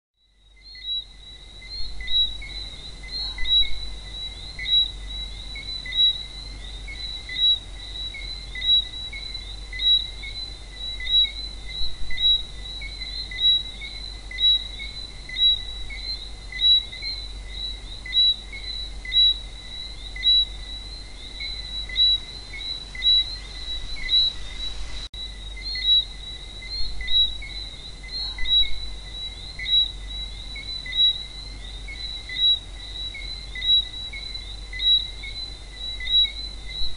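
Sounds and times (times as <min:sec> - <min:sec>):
frogs chirping: 0:00.2 - 0:36.9.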